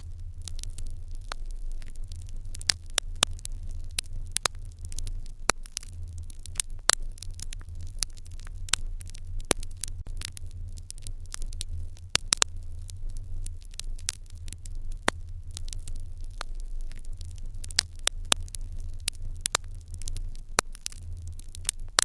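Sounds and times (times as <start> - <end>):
fire crackling and popping: 0.0 - 22.0
low steady rumble: 0.0 - 22.0.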